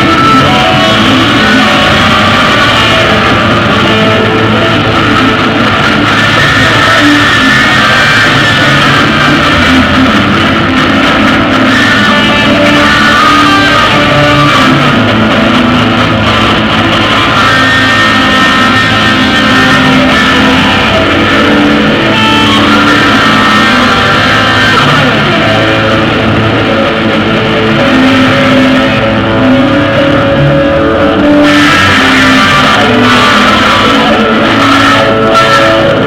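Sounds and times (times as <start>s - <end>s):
loud guitar rock music: 0.0s - 36.0s.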